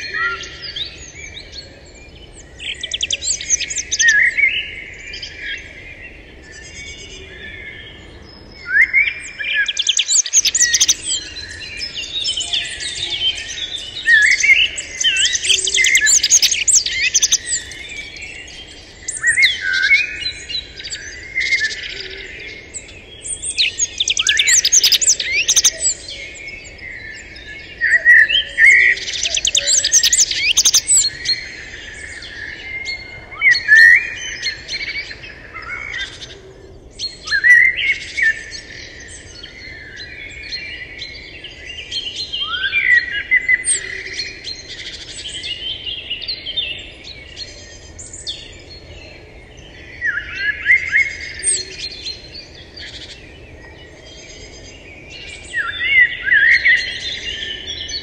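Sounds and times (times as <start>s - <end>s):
birds singing and chirping: 0.0s - 58.0s.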